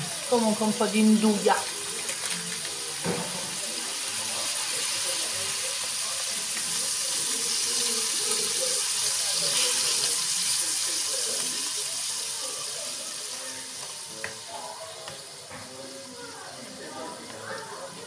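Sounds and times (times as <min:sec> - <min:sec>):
watery hiss of pot heating: 0:00.0 - 0:18.0.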